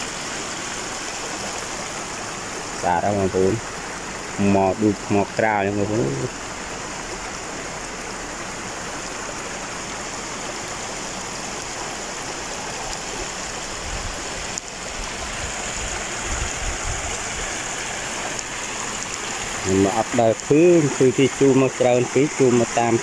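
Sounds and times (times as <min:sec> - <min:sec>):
stream water rushing over rocks: 0:00.0 - 0:23.0.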